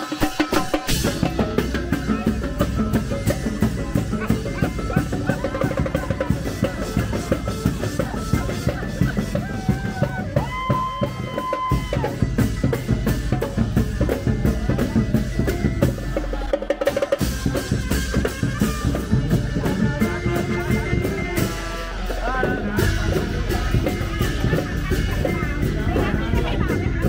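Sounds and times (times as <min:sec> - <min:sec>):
brass band playing: 0:00.0 - 0:27.0
drum kit beat: 0:00.0 - 0:27.0
drum roll: 0:00.0 - 0:27.0.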